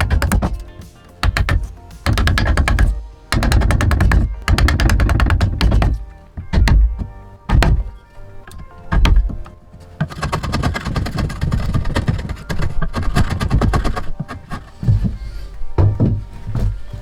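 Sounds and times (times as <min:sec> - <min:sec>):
impact driver rattling: 0:00.0 - 0:15.2
heavy wooden thuds: 0:00.0 - 0:17.0.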